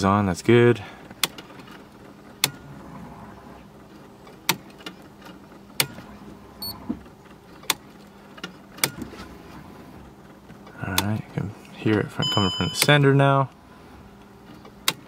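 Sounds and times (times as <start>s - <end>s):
fuel pump humming: 0.0s - 15.0s.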